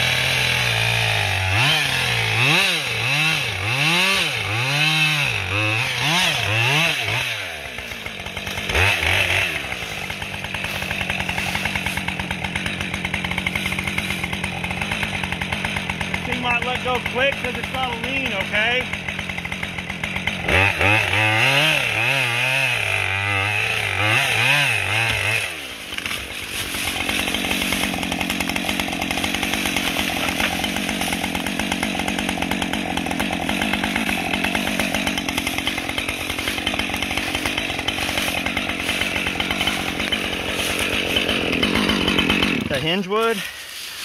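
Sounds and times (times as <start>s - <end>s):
chainsaw running: 0.0s - 44.0s.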